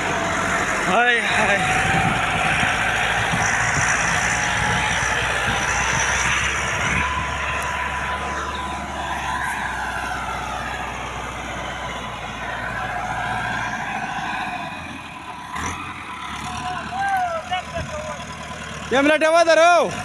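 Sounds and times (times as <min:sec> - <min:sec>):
whine drifting in pitch: 0:00.0 - 0:16.0
tractor engine droning under load: 0:00.0 - 0:20.0.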